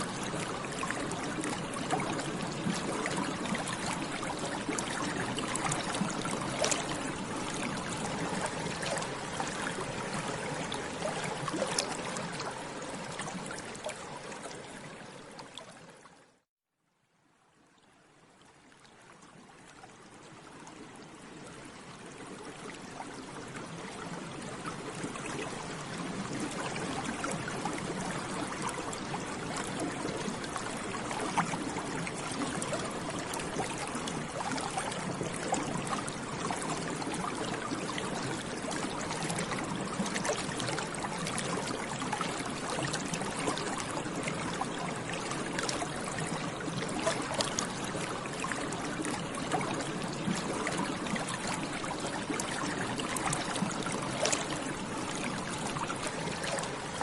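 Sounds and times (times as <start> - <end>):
water bubbling and gurgling: 0.0 - 16.4, 17.6 - 57.0.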